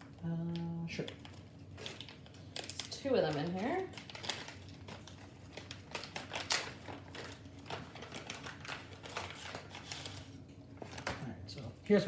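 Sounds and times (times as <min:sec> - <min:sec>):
plastic wrapper crinkling: 0:00.6 - 0:11.7.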